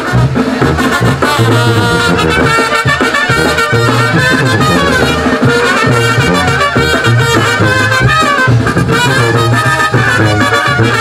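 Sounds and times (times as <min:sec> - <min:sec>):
brass band playing dance music: 0:00.0 - 0:11.0.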